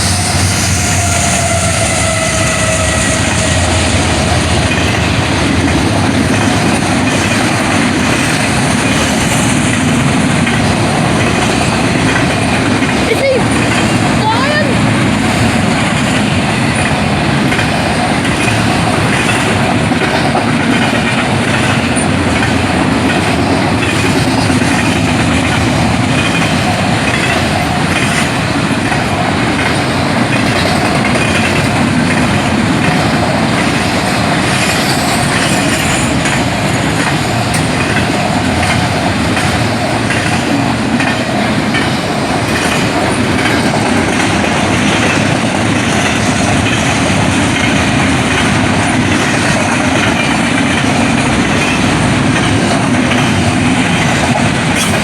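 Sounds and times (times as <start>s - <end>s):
train rushing over crossing: 0.0s - 55.0s.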